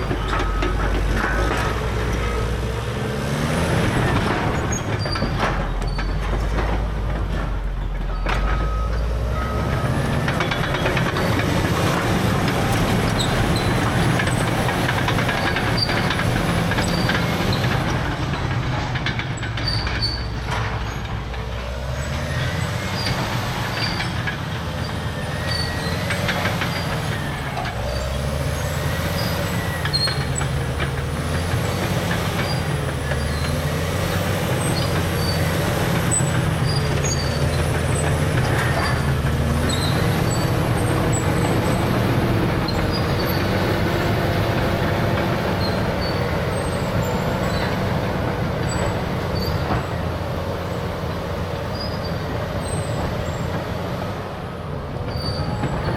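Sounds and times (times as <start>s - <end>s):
diesel engine under load: 0.0s - 55.9s.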